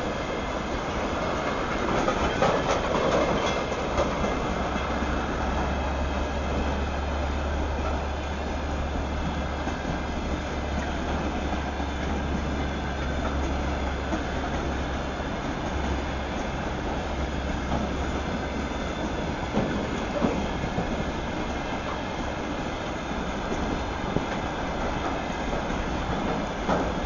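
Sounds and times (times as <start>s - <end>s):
wheel clacks: 0.0s - 6.8s, 7.6s - 27.0s
train wheel and rail rumble: 0.0s - 27.0s.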